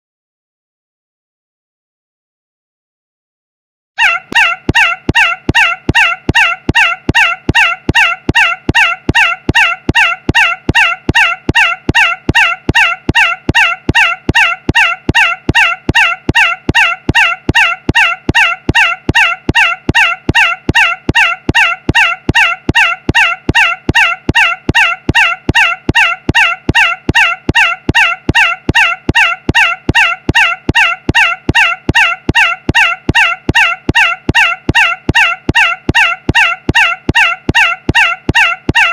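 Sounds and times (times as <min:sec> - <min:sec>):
shrill squawk: 0:04.0 - 0:38.9.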